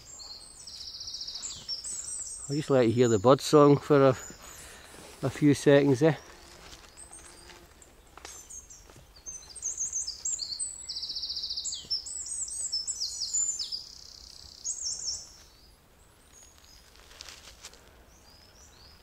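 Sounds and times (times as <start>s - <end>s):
songbird singing with trill: 0.0s - 4.8s, 5.6s - 16.8s.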